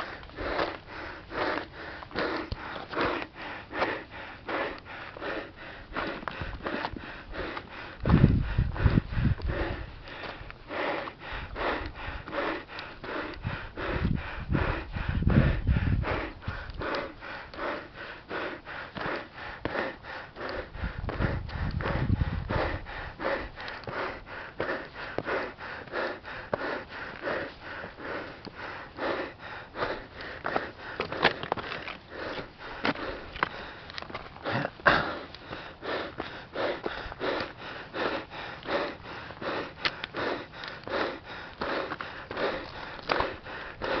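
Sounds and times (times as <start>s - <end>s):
man breathing heavily: 0.0s - 44.0s.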